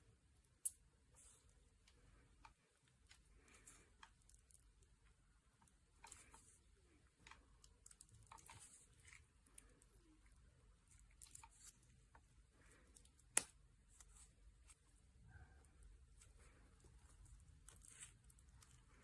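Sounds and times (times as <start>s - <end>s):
soft handling crackles: 1.0s - 19.0s.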